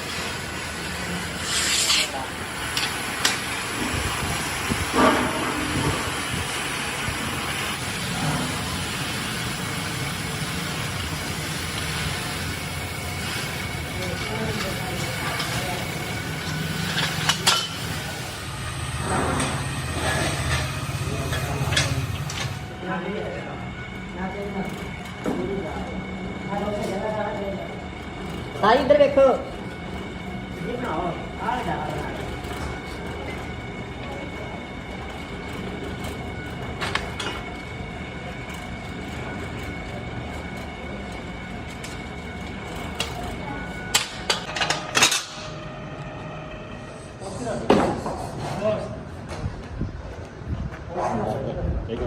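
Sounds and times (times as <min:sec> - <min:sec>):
workshop machinery humming: 0:00.0 - 0:52.0.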